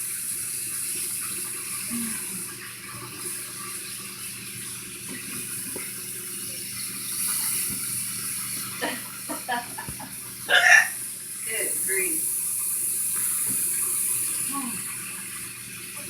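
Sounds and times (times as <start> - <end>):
faucet water running into sink: 0.0 - 16.0.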